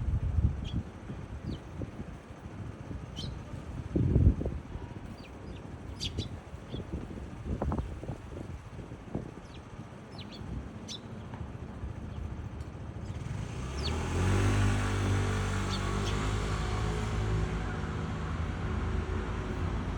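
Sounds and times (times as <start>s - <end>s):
vehicle engine humming: 0.1s - 19.9s.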